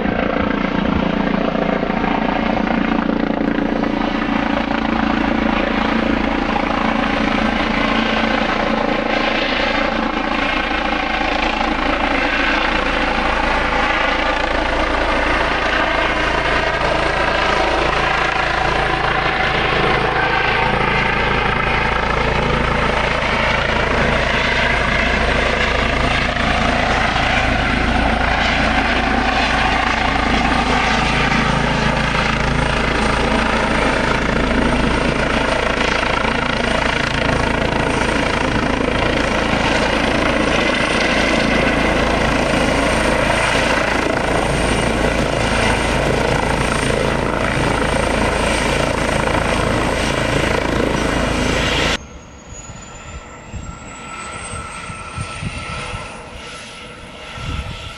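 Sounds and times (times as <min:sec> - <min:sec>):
helicopter rotor and turbine noise: 0:00.0 - 0:57.9
turbine whine: 0:00.0 - 0:57.9.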